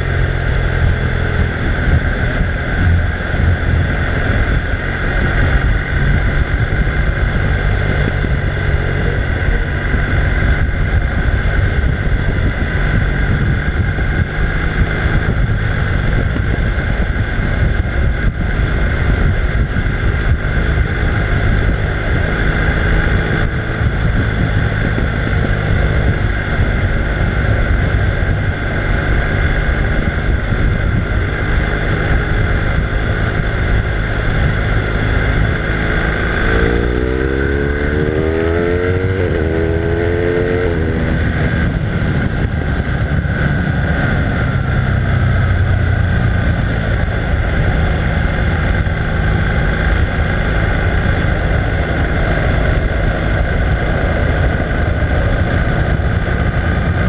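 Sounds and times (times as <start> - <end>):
heavy wind noise: 0.0 - 57.0
motorcycle engine running: 0.0 - 57.0.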